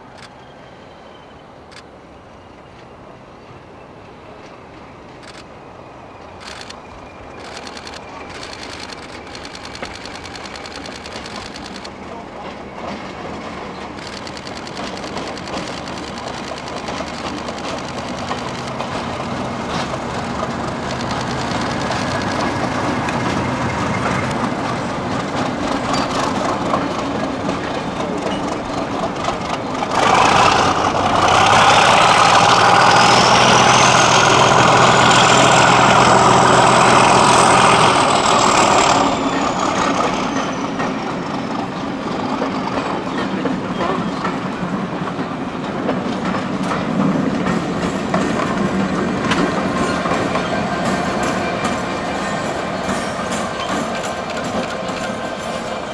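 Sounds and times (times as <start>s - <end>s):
diesel locomotive engine: 0.0s - 55.9s.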